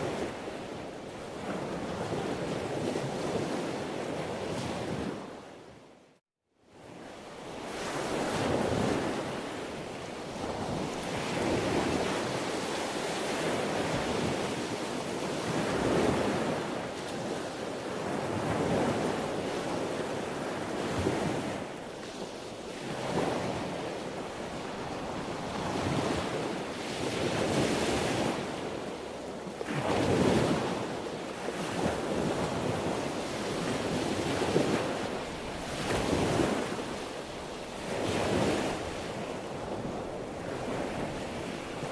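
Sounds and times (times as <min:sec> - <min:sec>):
wind: 0:00.0 - 0:41.9
sea waves breaking on shore: 0:06.8 - 0:41.9.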